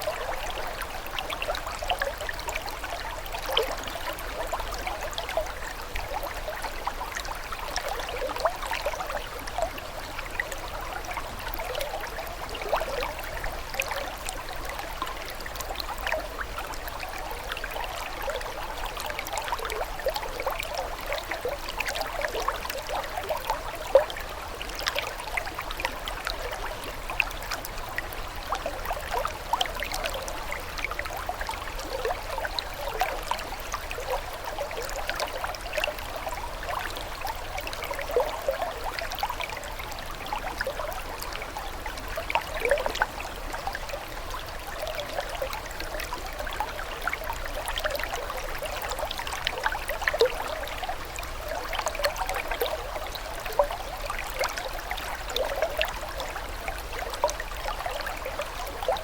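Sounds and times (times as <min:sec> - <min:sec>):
water trickling and gurgling: 0:00.0 - 0:59.0.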